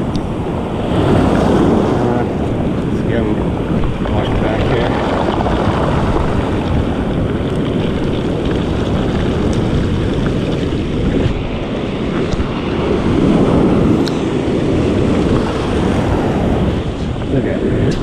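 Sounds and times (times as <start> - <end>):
surf washing over rocks: 0.0 - 18.0
wind buffeting microphone: 0.0 - 18.0.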